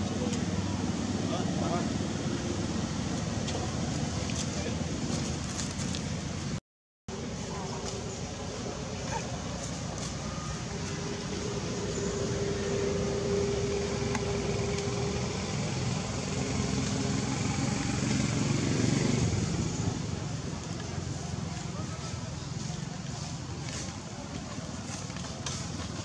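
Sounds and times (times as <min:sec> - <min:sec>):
motor engine humming: 0:00.0 - 0:26.0.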